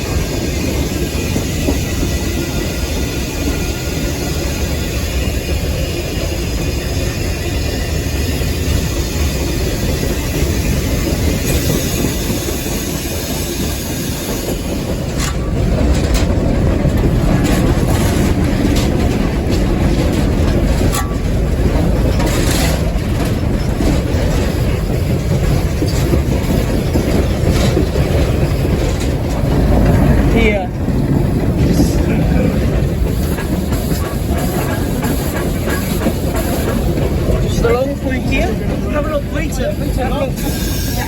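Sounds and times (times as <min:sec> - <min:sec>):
steam locomotive rumble: 0:00.0 - 0:41.0
wheel and rail clatter: 0:00.0 - 0:41.0.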